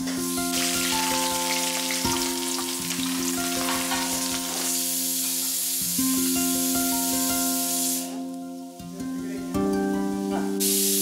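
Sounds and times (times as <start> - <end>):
onions sizzling in hot oil: 0.0 - 8.4, 10.1 - 11.0
soft plucked-string music: 0.0 - 11.0.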